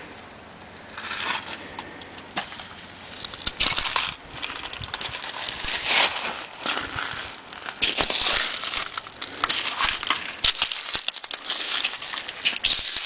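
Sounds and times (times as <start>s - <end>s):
footsteps crunching on glass: 0.9s - 13.0s.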